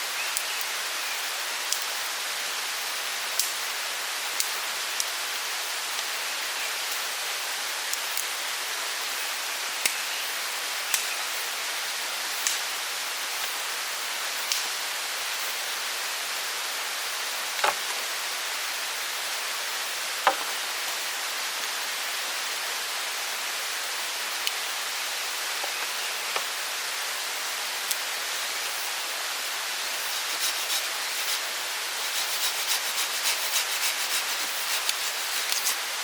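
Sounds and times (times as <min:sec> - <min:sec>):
forest stream rushing: 0:00.0 - 0:36.0.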